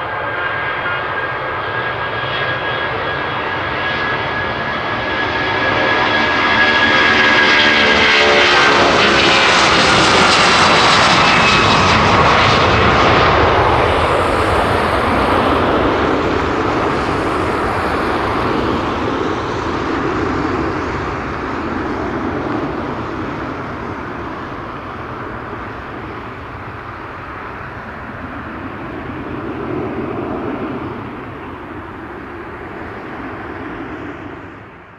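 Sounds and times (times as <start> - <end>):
jet engines roaring and whining: 0.0 - 34.9.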